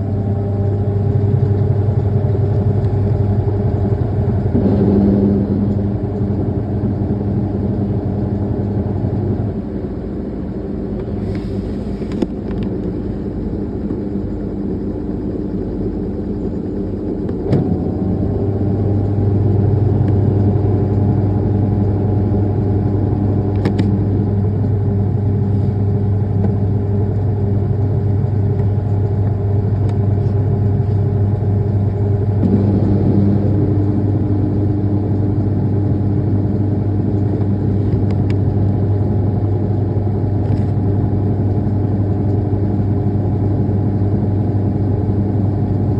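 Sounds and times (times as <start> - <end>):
faint rising whine: 0.0 - 39.4
washing machine spinning hum: 0.0 - 45.9.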